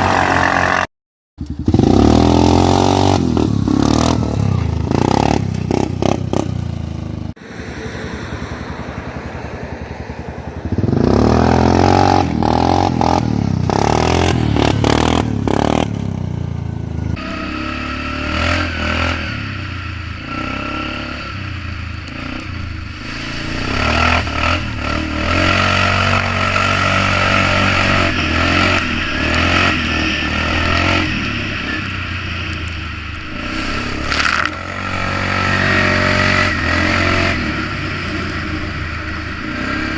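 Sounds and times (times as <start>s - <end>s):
atv engine revving and running: 0.0s - 39.9s.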